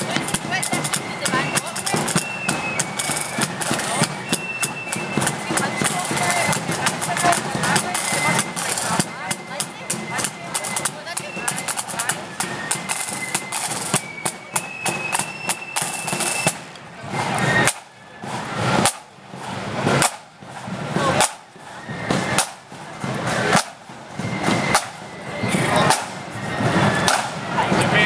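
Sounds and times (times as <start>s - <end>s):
marching band drums: 0.0s - 28.0s.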